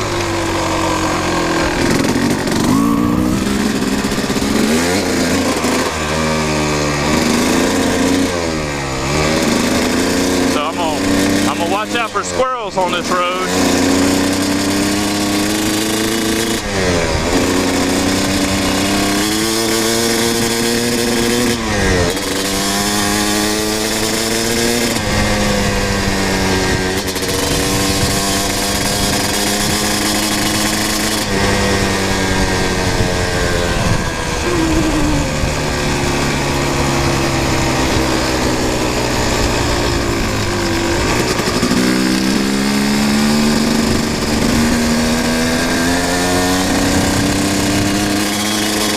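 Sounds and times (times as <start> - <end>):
dirt bike accelerating through gears: 0.0 - 48.9.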